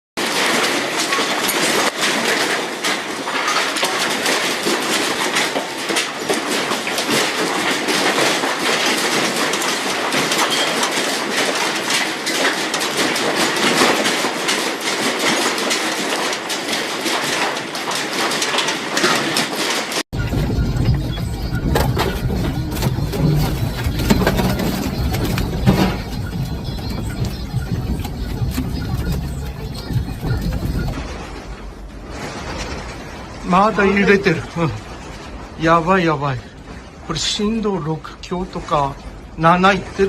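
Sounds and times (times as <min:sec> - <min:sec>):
building rattling in earthquake: 0:00.2 - 0:40.0.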